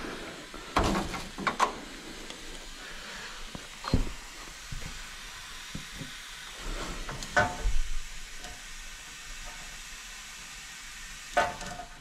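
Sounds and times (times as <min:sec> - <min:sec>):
hiss and sizzle on hot pipe: 0:00.0 - 0:12.0.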